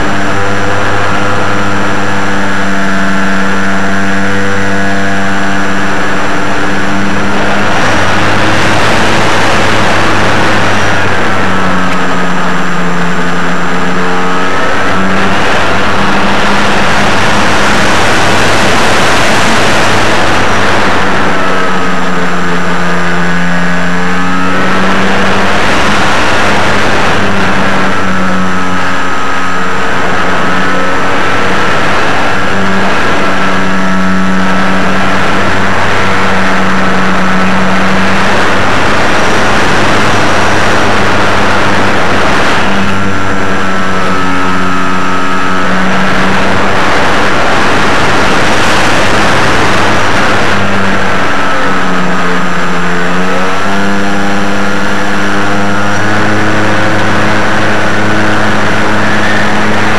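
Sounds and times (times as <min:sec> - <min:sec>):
aircraft engine and propeller: 0:00.0 - 0:59.9.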